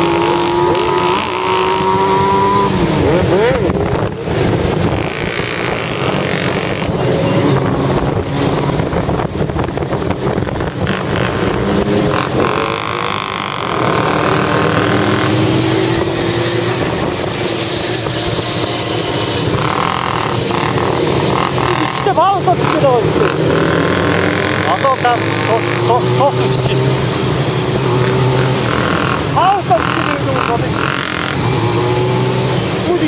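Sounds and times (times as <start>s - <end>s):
wind buffeting microphone: 0.0s - 30.0s
motorcycle engines running: 0.0s - 33.0s.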